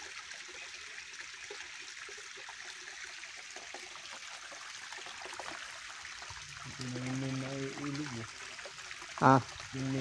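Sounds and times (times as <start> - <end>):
water running over rocks: 0.0 - 10.0.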